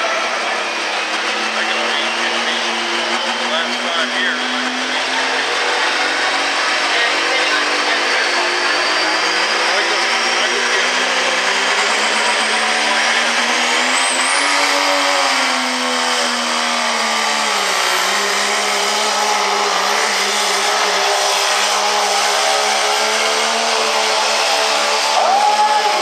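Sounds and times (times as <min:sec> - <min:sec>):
diesel truck engine at full throttle: 0:00.0 - 0:26.0.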